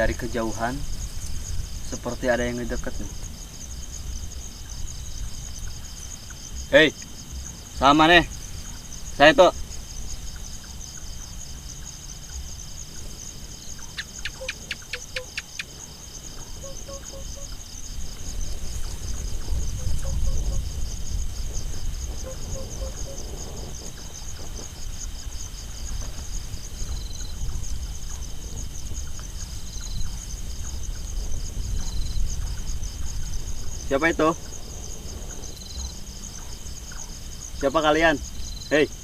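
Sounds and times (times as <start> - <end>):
crickets chirring: 0.0 - 39.0.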